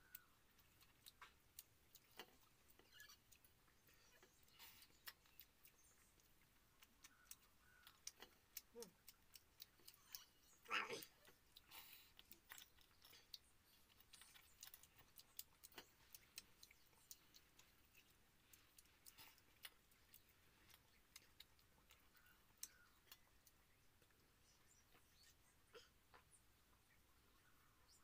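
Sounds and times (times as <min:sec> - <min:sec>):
chewing: 0:00.0 - 0:28.0.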